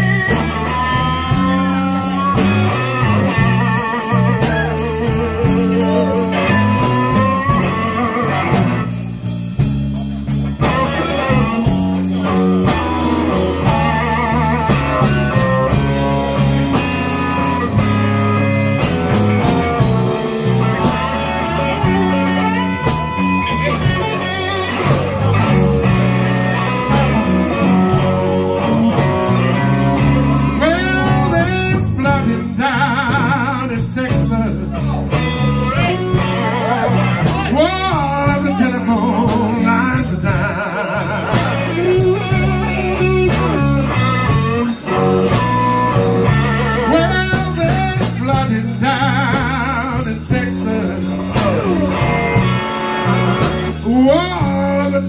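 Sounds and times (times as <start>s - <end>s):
bass guitar: 0.0s - 55.0s
drums: 0.0s - 55.0s
electric guitar lead lines: 0.0s - 55.0s.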